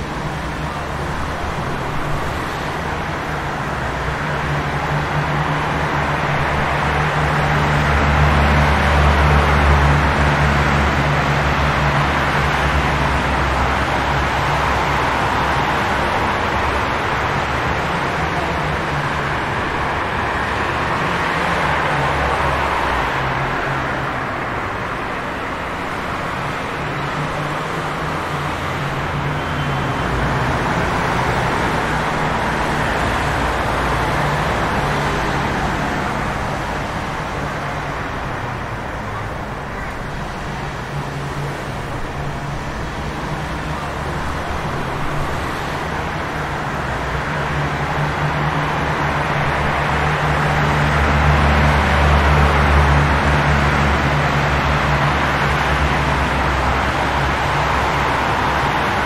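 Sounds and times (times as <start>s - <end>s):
passing vehicles rush: 0.0s - 59.0s.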